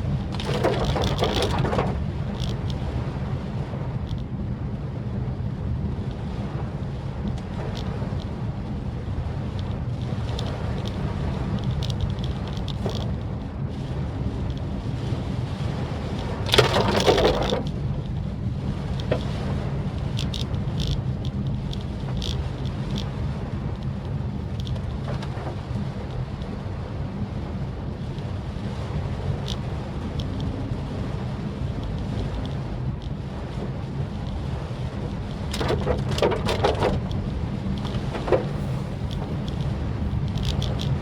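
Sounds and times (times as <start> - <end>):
road and engine rumble: 0.0 - 41.0
raindrop ticks: 0.1 - 2.9, 7.2 - 13.6, 14.4 - 14.8, 16.1 - 28.4, 29.2 - 41.0.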